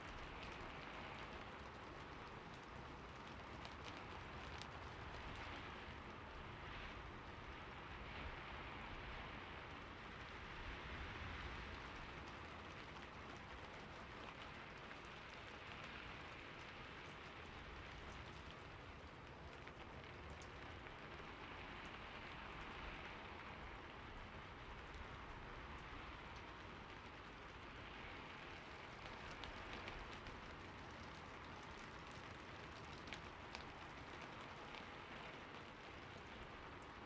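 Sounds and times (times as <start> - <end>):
rain falling on a roof: 0.0 - 37.0.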